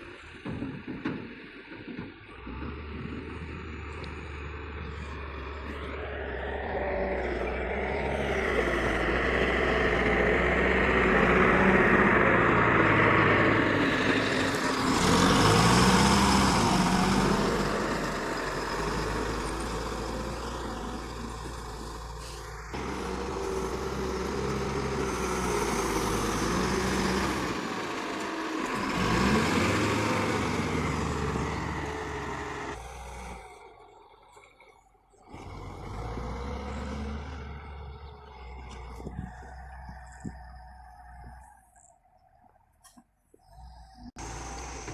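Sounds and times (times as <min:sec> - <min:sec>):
heavy diesel engine revving: 0:01.8 - 0:41.6, 0:43.5 - 0:44.9.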